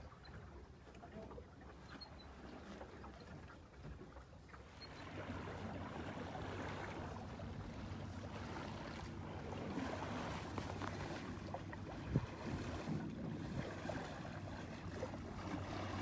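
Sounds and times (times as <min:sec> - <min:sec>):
water washing around sailboat: 0:00.0 - 0:16.0.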